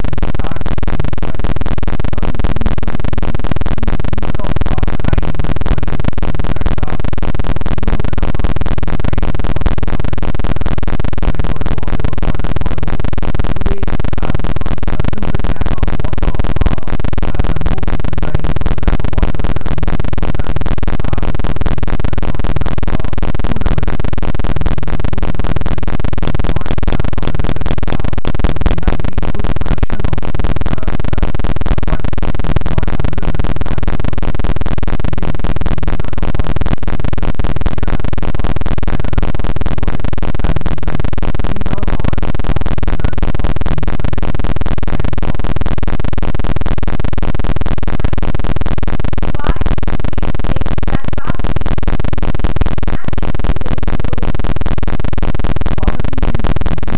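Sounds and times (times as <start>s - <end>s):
harsh distorted noise: 0.0s - 56.9s.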